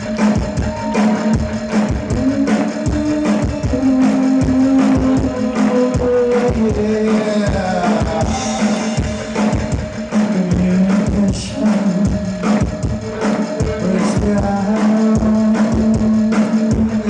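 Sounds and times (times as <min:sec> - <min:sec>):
drum kit beat: 0:00.0 - 0:17.0
person singing: 0:00.0 - 0:17.0
synthesizer and bass notes: 0:00.0 - 0:17.0.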